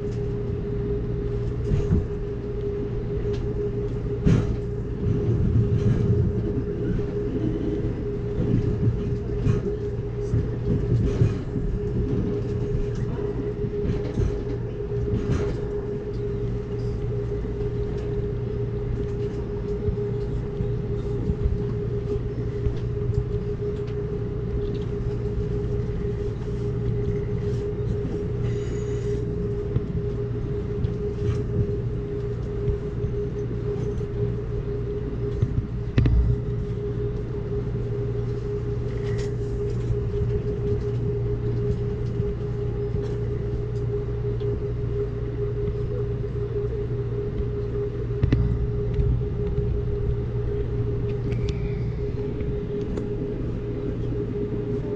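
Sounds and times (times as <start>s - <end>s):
train rumble on board: 0.0s - 54.9s.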